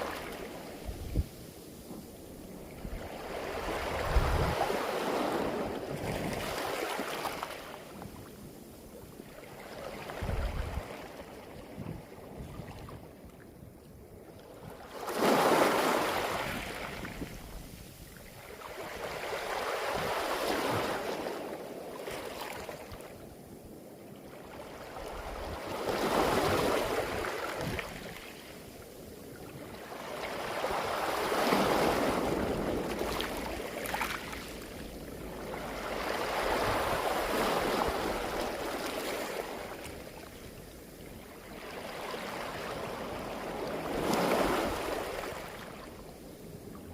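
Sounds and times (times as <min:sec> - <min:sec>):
waves washing on a beach: 0:00.0 - 0:46.9.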